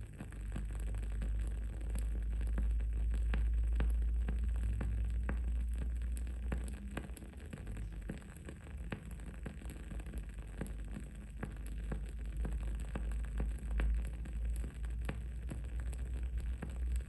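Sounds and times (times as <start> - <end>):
candle crackling: 0.0 - 17.0.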